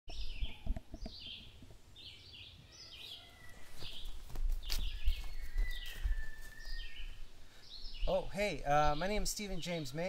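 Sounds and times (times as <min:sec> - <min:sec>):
songbird singing falling phrases: 0:00.1 - 0:10.0.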